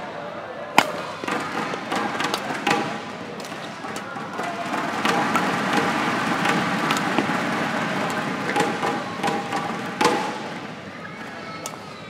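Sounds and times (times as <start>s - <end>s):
sports hall background noise: 0.0s - 12.0s
rackets hitting shuttlecock: 0.8s - 12.0s.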